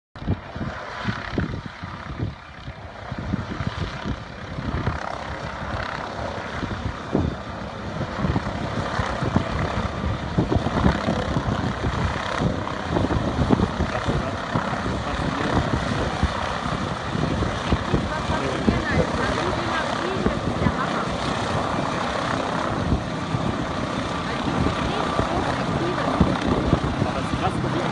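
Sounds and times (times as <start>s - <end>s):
helicopter running: 0.2s - 27.9s.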